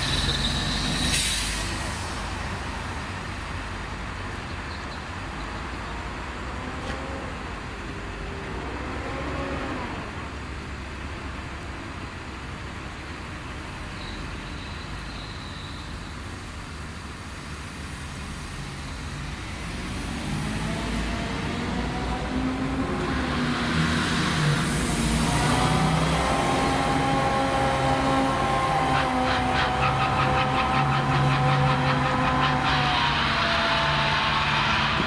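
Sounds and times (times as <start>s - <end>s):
bus engines rumbling in traffic: 0.0s - 35.0s
bus passing: 0.0s - 35.0s.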